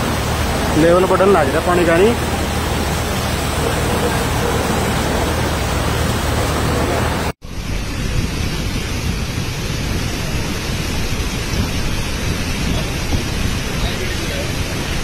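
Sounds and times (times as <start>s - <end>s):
floodwater rushing torrent: 0.0s - 15.0s.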